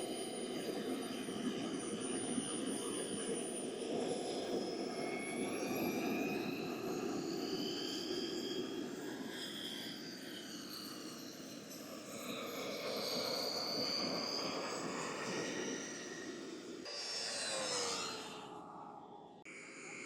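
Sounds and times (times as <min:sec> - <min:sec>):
model jet turbine roar and whine: 0:00.0 - 0:20.0.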